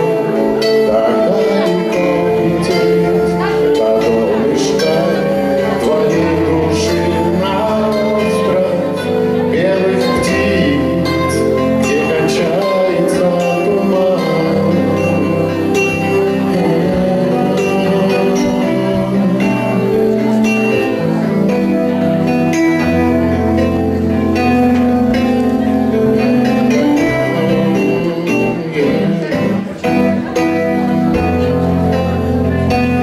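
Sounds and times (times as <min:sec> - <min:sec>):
amplified instrumental accompaniment: 0:00.0 - 0:33.0
man singing into microphone: 0:00.0 - 0:33.0.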